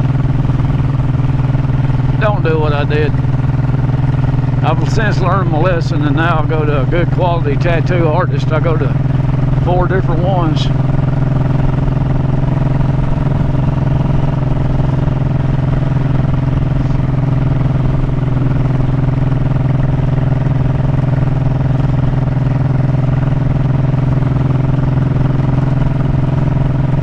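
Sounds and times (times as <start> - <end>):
motorcycle engine running steadily: 0.0 - 27.0.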